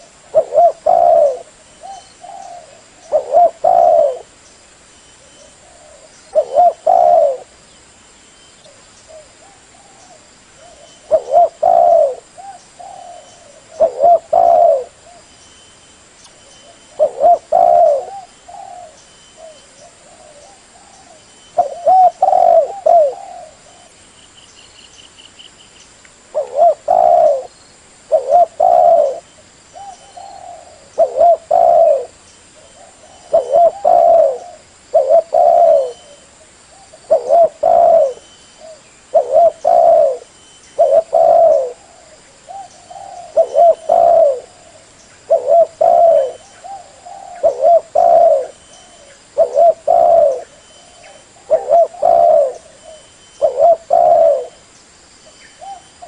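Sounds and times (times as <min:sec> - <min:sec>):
dove cooing: 0:00.0 - 0:04.3, 0:05.2 - 0:07.6, 0:09.1 - 0:15.3, 0:16.6 - 0:24.0, 0:26.3 - 0:54.6, 0:55.2 - 0:56.0.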